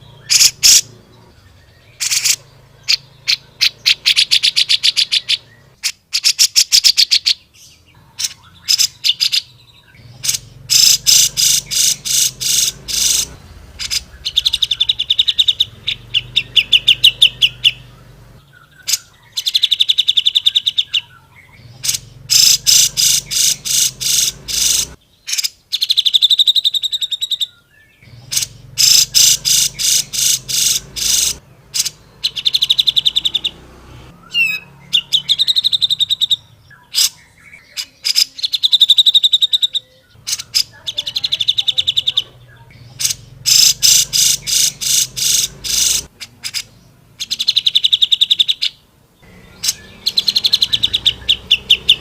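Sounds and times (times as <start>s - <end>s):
bird singing rapid trills: 0.0s - 52.0s.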